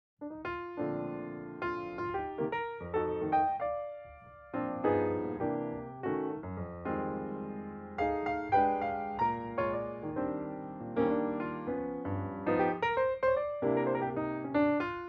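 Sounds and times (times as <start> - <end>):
slow piano chords: 0.2 - 15.0.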